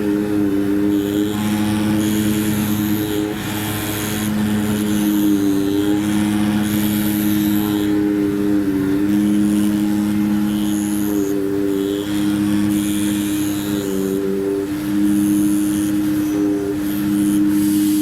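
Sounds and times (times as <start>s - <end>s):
cutting machine motor whine: 0.0s - 18.0s
machine hiss: 0.0s - 18.0s.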